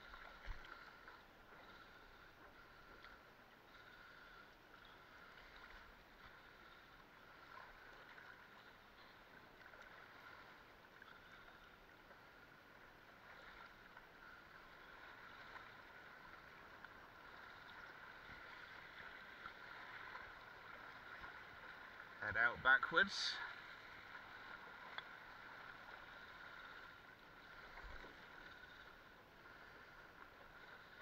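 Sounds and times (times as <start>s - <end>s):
water trickling along a board: 0.0s - 22.2s, 23.4s - 31.0s.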